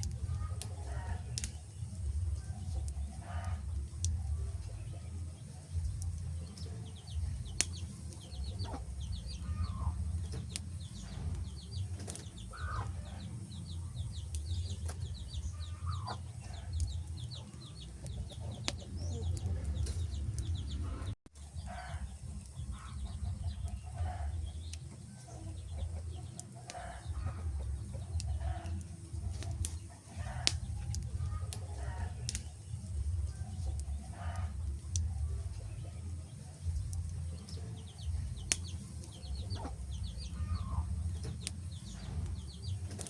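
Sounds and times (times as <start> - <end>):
wood fire crackling and popping: 0.0 - 20.6, 22.0 - 43.0
steady low rumble: 0.0 - 43.0.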